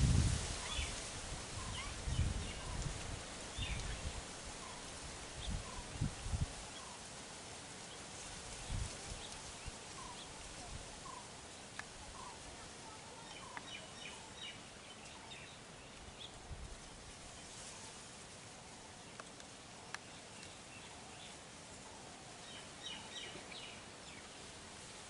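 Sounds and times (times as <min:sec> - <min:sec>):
outdoor background hiss: 0:00.0 - 0:25.0
small birds chirping: 0:00.5 - 0:07.1, 0:07.8 - 0:24.6.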